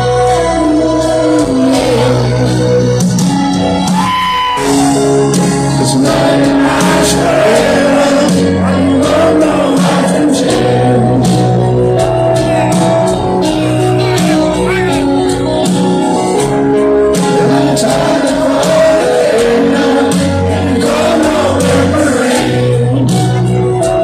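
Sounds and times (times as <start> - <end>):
live rock ballad through pa: 0.0 - 24.0
piano: 0.0 - 24.0
sung lead vocal: 0.0 - 24.0.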